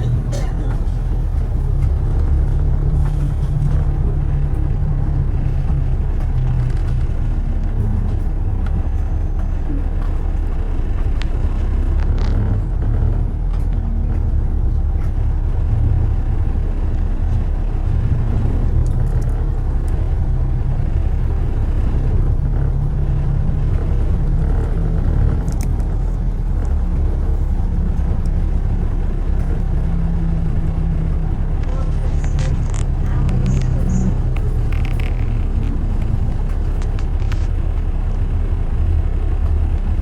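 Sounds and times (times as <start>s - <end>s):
road and engine rumble: 0.0s - 40.0s
faint clicks: 0.5s - 40.0s.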